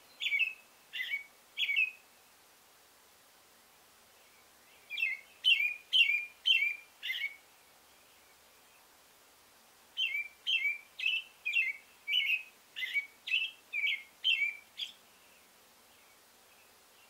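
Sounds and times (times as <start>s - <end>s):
robin singing: 0.0s - 2.1s, 4.2s - 8.9s, 10.0s - 17.0s.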